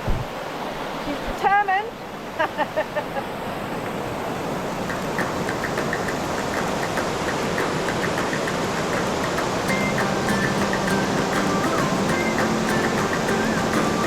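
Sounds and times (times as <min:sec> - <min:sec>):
water rushing down creek cascade: 0:00.4 - 0:14.0.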